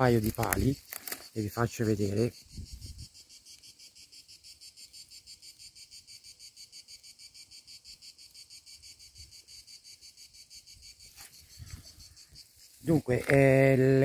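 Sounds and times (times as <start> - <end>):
insects chirping in grass: 0.0 - 14.0.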